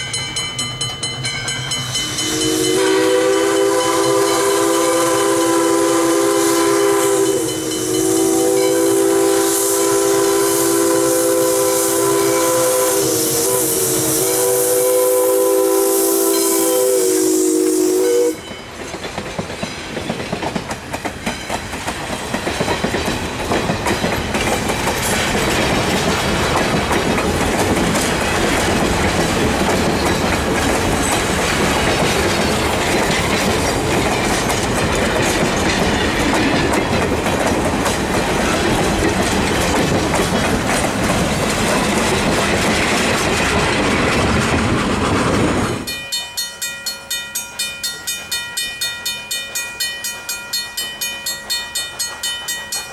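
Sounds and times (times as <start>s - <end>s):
clickety-clack of wheels on rails: 0.0s - 14.8s, 18.2s - 52.9s
train coaches rumbling past: 0.0s - 52.9s.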